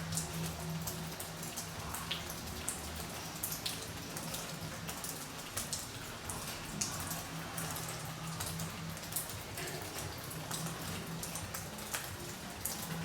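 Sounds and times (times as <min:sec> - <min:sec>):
rain drops pattering: 0:00.0 - 0:13.0.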